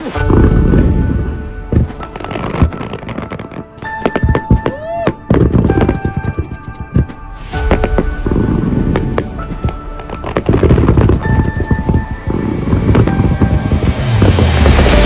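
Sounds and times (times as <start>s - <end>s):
fireworks bursts and crackle: 0.0s - 15.0s.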